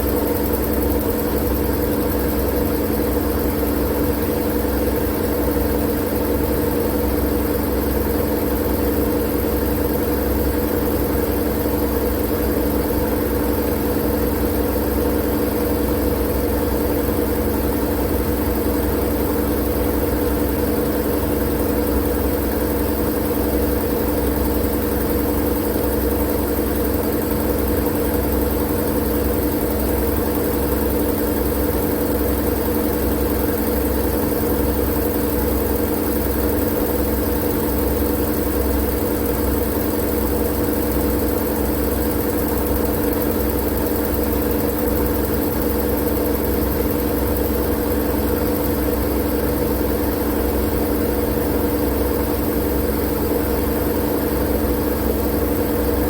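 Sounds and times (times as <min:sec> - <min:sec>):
machine-like white noise drone: 0:00.0 - 0:56.0.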